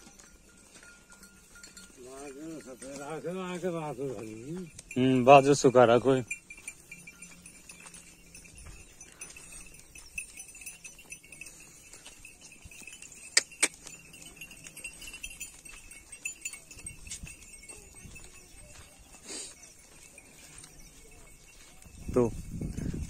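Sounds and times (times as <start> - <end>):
goat hooves on dirt path: 0.0 - 23.0.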